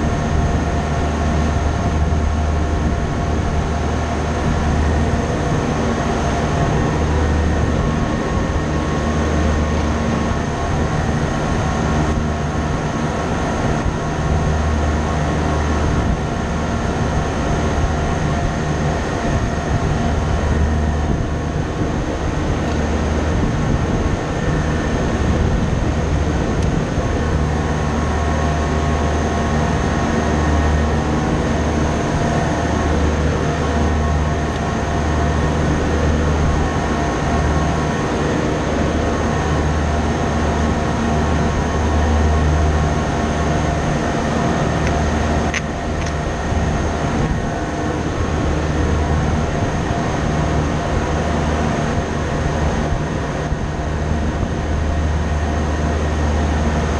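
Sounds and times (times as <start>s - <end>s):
deep rumble: 0.0s - 56.9s
machinery drone: 0.0s - 56.9s.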